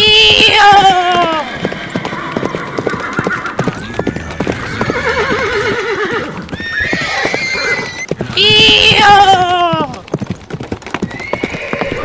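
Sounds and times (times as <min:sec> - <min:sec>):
hooves clopping: 0:00.0 - 0:12.0
horses neighing and whinnying: 0:00.0 - 0:12.0.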